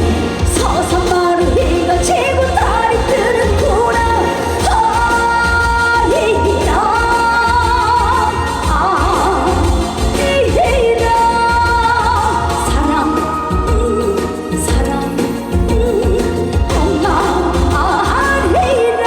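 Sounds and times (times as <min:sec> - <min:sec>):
amplified band with bass beat: 0:00.0 - 0:19.0
woman singing with vibrato: 0:00.0 - 0:19.0.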